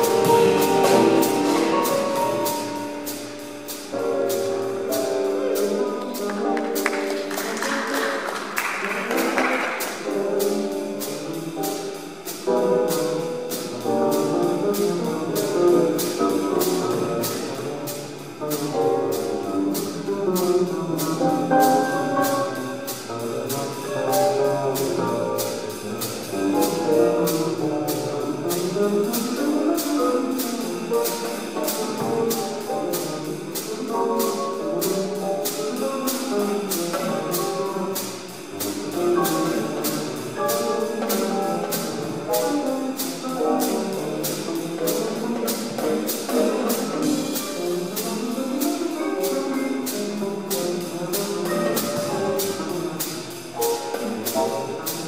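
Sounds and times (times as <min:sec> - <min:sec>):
double bass: 0:00.0 - 0:55.0
jazz piano lines: 0:00.0 - 0:55.0.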